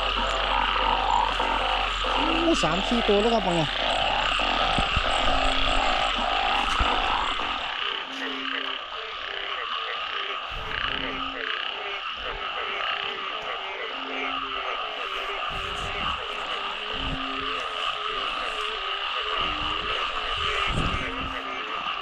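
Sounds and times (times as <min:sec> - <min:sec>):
frogs croaking quickly: 0:00.0 - 0:22.0
high-pitched frog calls: 0:00.0 - 0:22.0
low drawn-out frog croak: 0:00.0 - 0:22.0.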